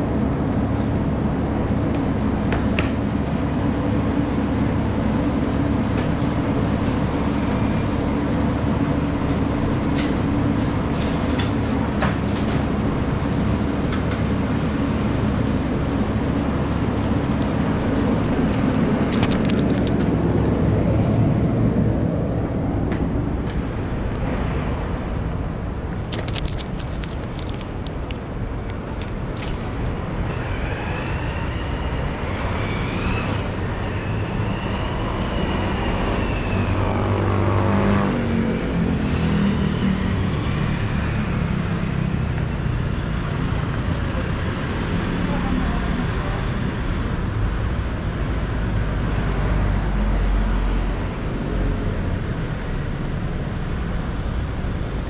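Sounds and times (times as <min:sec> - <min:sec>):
city street ambience: 0:00.0 - 0:55.0
vehicle engine rumble: 0:00.0 - 0:55.0.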